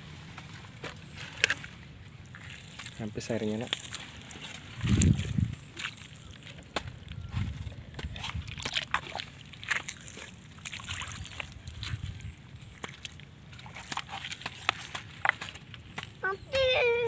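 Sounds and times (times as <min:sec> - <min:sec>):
water sloshing in plastic bottle: 0:00.7 - 0:16.2.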